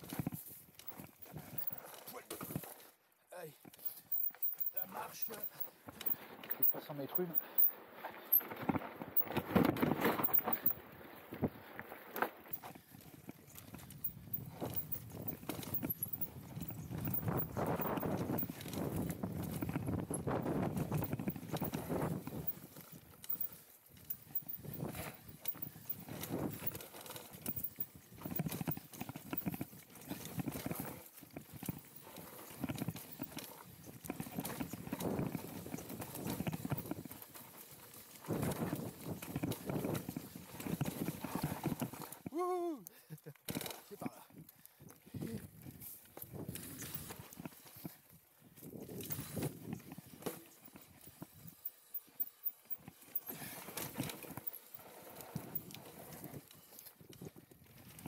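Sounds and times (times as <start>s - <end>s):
mountain bike clattering over bumps: 3.7s - 42.3s, 45.5s - 58.0s.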